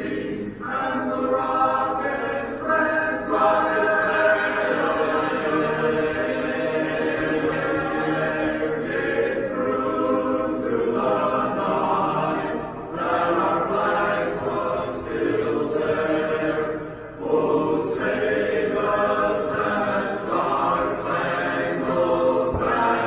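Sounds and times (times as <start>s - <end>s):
group singing a slow anthem: 0.0s - 23.0s.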